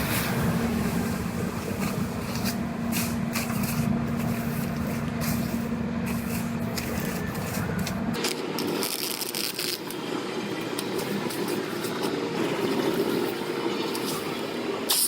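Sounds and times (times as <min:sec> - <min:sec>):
machine humming and rumbling: 0:00.0 - 0:15.0.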